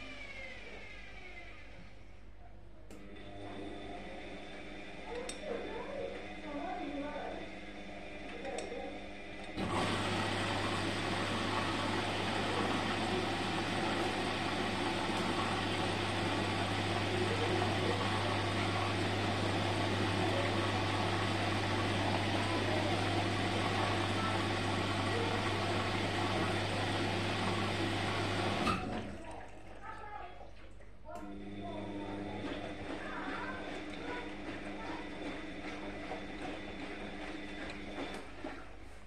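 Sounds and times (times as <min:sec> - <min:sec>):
washing machine running: 0:00.0 - 0:02.4, 0:03.0 - 0:39.0.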